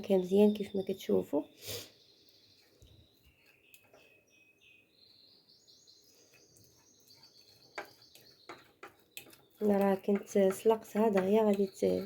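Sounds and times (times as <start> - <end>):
faint high-pitched chirping tones: 0.0 - 12.0.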